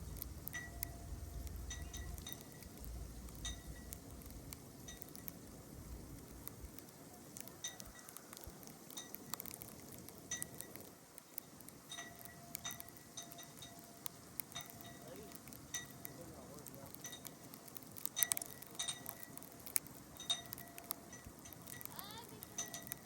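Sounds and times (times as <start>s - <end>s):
faint light ticks: 0.0s - 5.4s, 6.1s - 23.0s.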